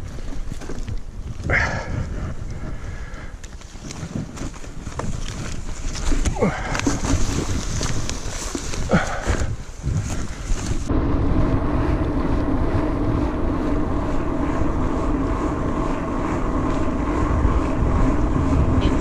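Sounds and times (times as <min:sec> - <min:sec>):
bike tyres rolling on pavement: 0:00.0 - 0:19.0
wind rushing over microphone: 0:00.0 - 0:19.0.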